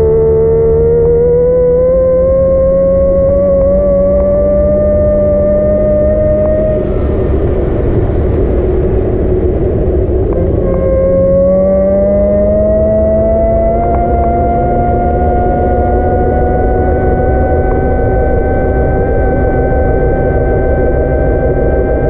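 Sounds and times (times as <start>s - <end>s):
electric motor whining: 0.0s - 7.0s, 10.3s - 22.0s
road rumble: 0.0s - 22.0s
wind: 0.0s - 22.0s.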